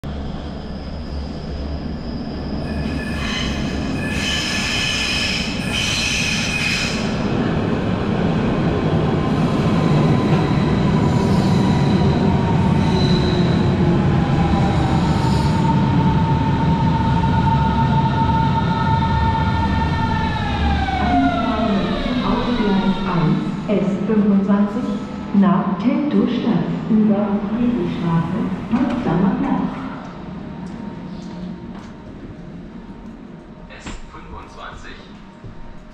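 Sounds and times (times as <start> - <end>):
train rumble: 0.0 - 35.9.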